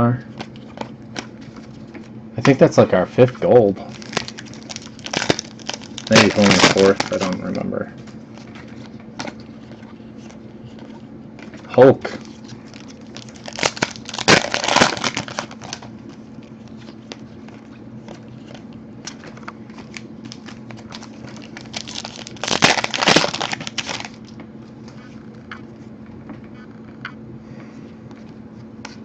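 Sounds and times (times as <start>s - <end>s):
faint steady hum: 0.0s - 29.0s
card packs crinkling and rustling: 0.3s - 24.4s.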